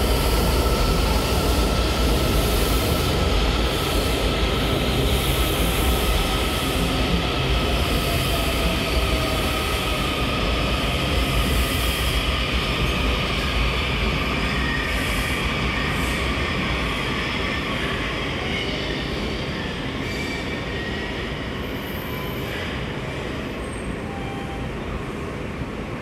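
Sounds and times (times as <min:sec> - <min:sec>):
subway train rumble and hiss: 0:00.0 - 0:26.0.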